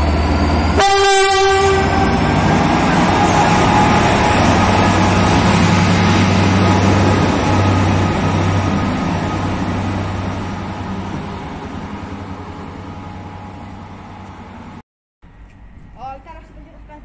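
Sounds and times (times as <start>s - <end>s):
diesel locomotive drone: 0.0s - 17.0s.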